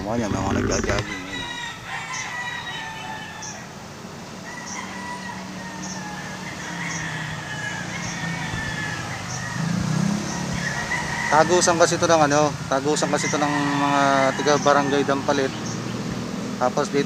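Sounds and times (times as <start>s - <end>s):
rooster crowing: 0.0s - 3.8s, 4.4s - 12.1s, 12.8s - 15.7s.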